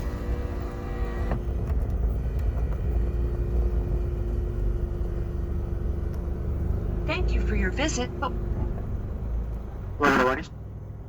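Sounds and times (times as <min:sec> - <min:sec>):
car engine rumble inside cabin: 0:00.0 - 0:11.0.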